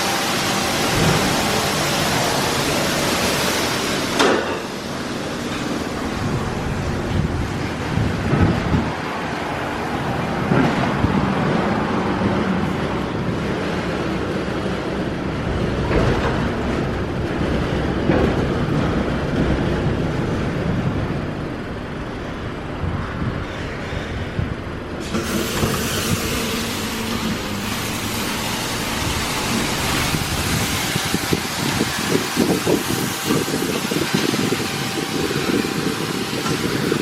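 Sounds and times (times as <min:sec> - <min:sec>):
car wash machinery running: 0:00.0 - 0:37.0.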